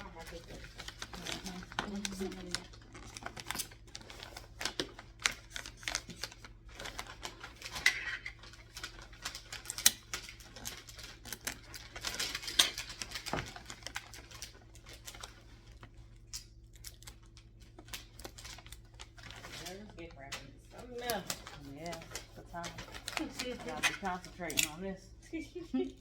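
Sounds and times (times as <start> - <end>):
wrapping paper rustling: 0.0 - 26.0.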